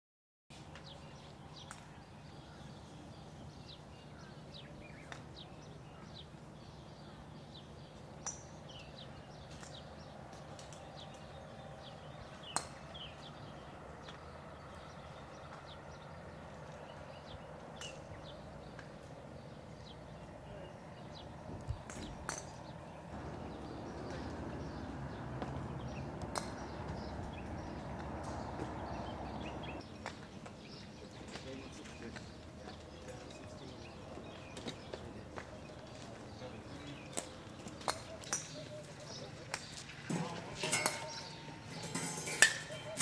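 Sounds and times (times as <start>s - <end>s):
small birds chirping: 0.5s - 43.0s.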